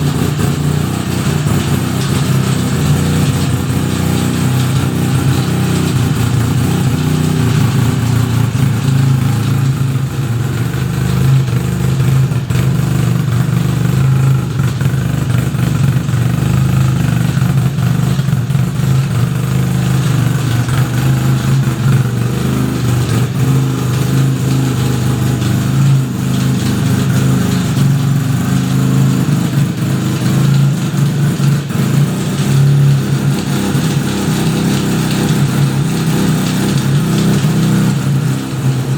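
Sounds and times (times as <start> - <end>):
rotary engine running: 0.0 - 38.9.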